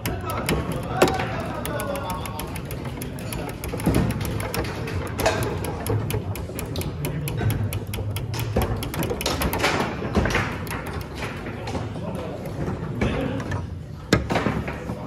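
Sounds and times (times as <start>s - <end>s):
table football clicks and knocks: 0.0s - 15.0s.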